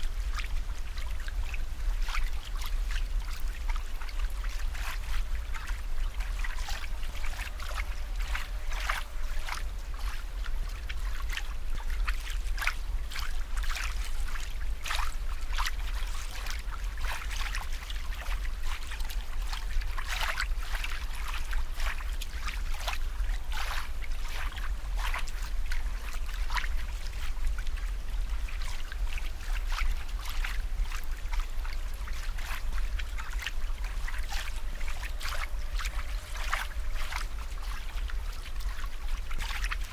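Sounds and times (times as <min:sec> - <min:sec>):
small water splashes: 0:00.0 - 0:39.9
water trickling and bubbling: 0:00.0 - 0:39.9.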